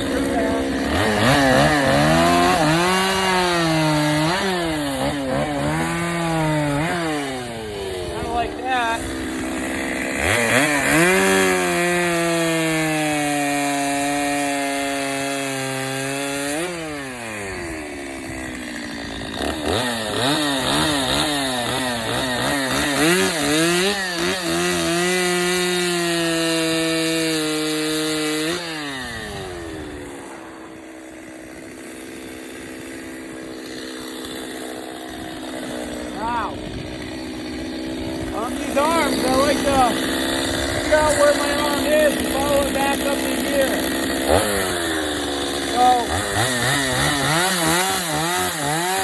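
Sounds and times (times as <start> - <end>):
chainsaw cutting wood: 0.0 - 49.0
chainsaw idling: 0.0 - 49.0.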